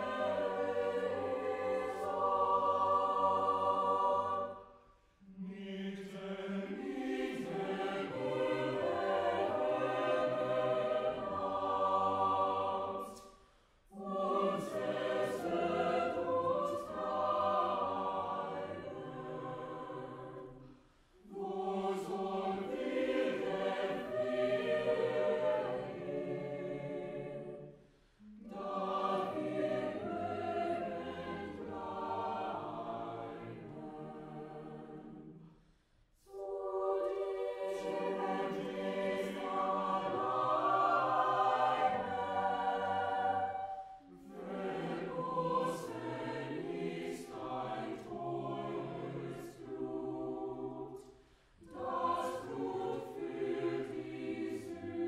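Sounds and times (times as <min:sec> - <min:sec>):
choir singing sustained chords: 0:00.0 - 0:55.0.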